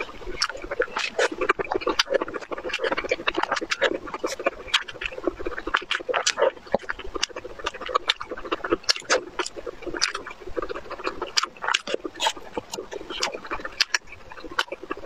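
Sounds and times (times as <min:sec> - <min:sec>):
mouth clicks: 0:00.0 - 0:15.0
wet chewing and lip smacking: 0:00.0 - 0:15.0.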